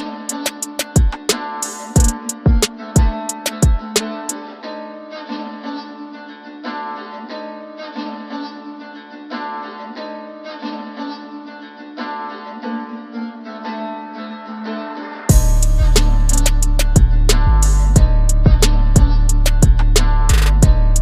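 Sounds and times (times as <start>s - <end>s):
plucked string melody: 0.0s - 21.0s.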